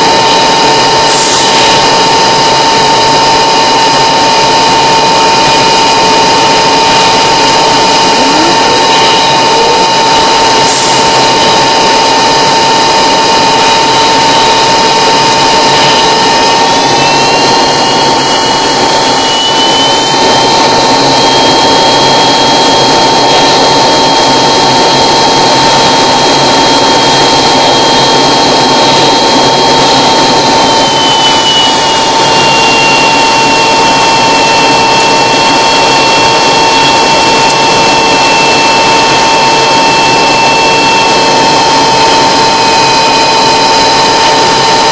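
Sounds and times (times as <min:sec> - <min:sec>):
aircraft engine running: 0:00.0 - 0:44.9
high engine whine: 0:00.0 - 0:44.9.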